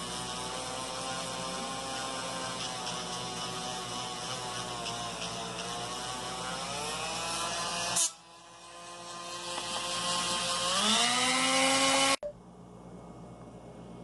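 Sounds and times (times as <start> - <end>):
rotary tool motor whine: 0.0 - 12.2.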